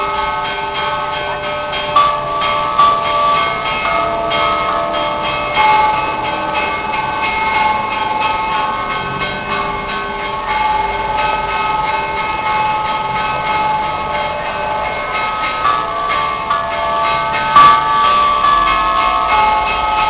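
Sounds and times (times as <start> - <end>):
church bells pealing: 0.0 - 20.0.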